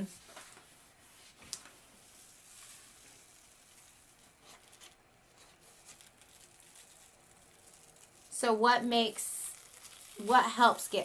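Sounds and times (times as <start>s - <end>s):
paper peeling rustle: 0.1s - 11.0s.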